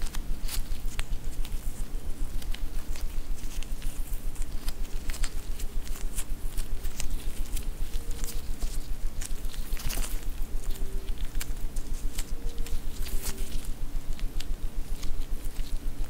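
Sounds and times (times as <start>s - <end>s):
glove rustle: 0.0s - 16.0s
hands kneading sticky dough: 0.0s - 16.0s
steady low hum: 0.0s - 16.0s.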